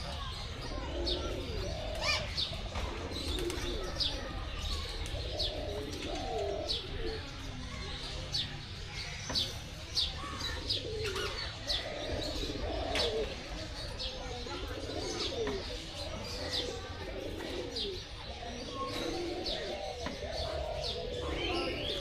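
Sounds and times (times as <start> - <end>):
birds cooing: 0.0 - 22.0.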